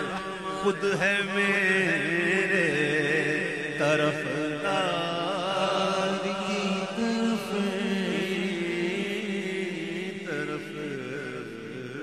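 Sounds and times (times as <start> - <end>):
man singing long notes: 0.0 - 12.0.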